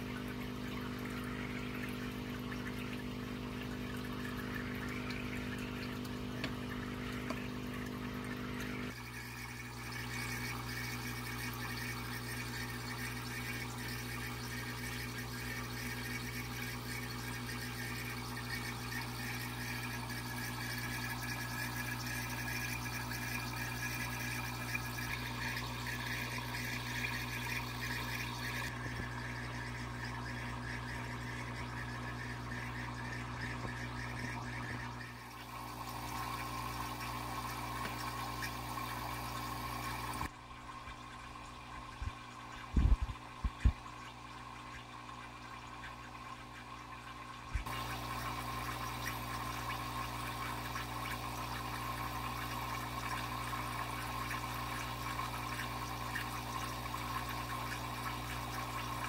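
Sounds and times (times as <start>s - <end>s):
pump hum: 0.0s - 59.0s
water pouring and trickling: 0.0s - 59.0s.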